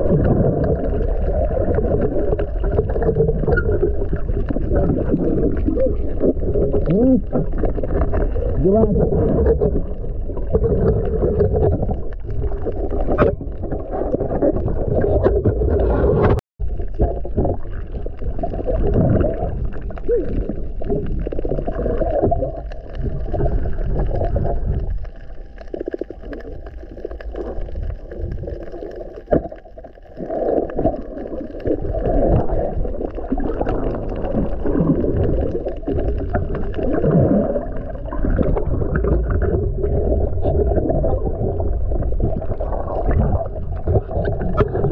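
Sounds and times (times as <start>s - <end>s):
muffled underwater water sloshing: 0.0s - 44.9s.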